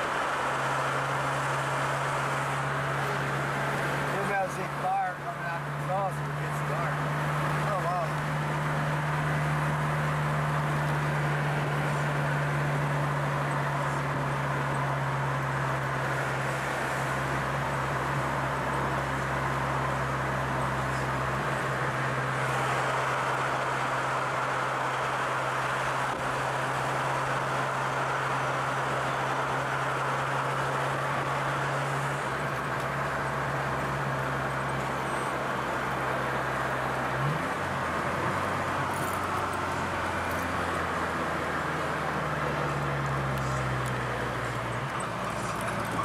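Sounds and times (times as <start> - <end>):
car engine hum: 0.0 - 46.0
tyre and road noise: 0.0 - 46.0.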